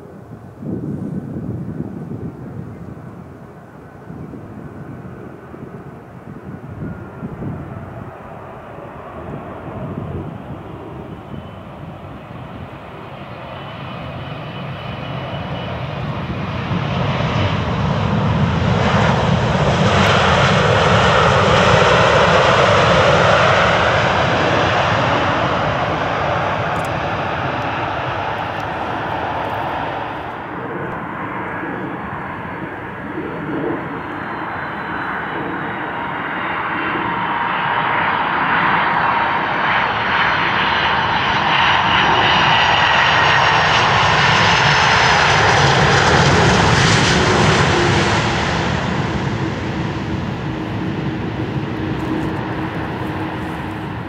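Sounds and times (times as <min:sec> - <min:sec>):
jet engines roaring on landing: 0:00.0 - 0:54.0.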